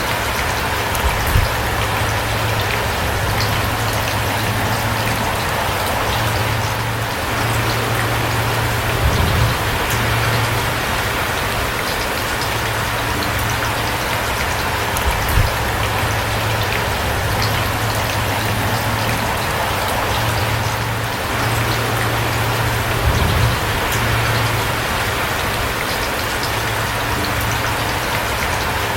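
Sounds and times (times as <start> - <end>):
low steady hum: 0.0 - 28.9
steady rain falling: 0.0 - 28.9.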